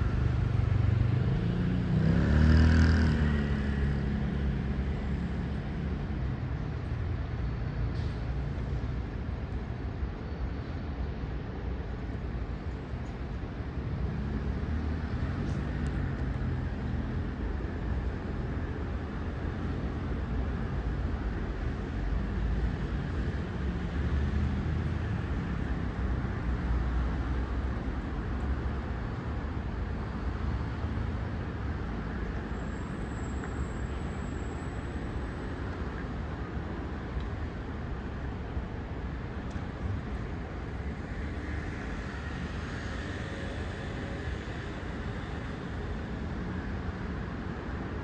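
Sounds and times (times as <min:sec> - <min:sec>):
traffic rumble: 0:00.0 - 0:48.0.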